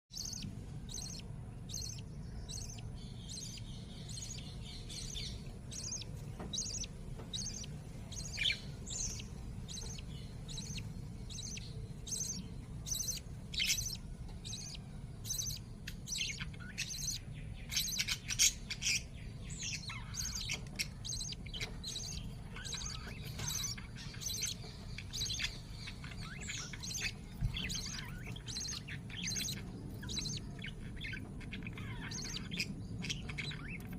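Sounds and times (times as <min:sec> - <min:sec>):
lovebirds chirping: 0:00.1 - 0:33.9.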